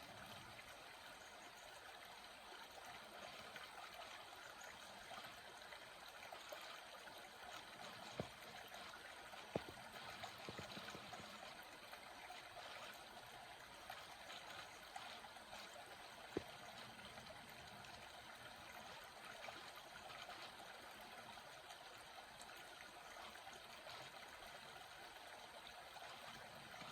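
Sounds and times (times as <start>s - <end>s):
small stream trickling: 0.0s - 26.9s.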